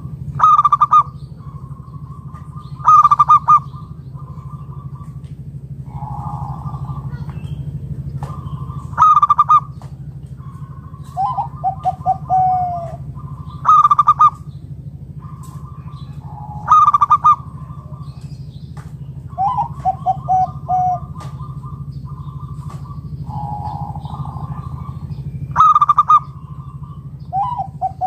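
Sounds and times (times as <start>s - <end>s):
dove cooing: 0.0s - 28.0s
low hum: 0.0s - 28.0s.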